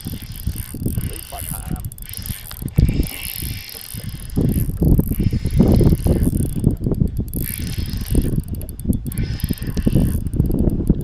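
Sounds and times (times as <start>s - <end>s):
spinning reel cranking: 0.0s - 11.0s
wind rumble on microphone: 0.0s - 11.0s.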